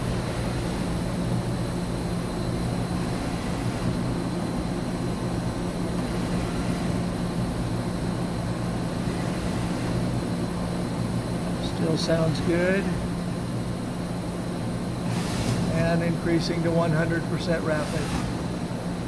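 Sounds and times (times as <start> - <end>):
machine axis drive humming: 0.0 - 19.0.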